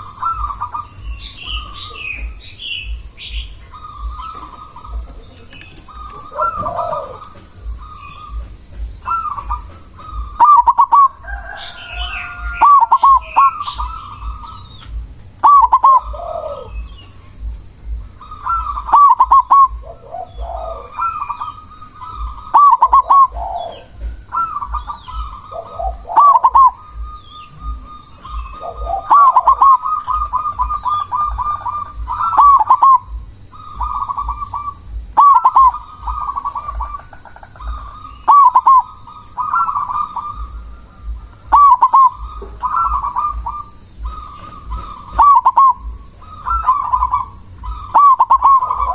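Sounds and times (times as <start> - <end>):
lower coos from second bird: 0.0 - 17.6, 18.2 - 48.9
doves cooing: 0.0 - 48.9.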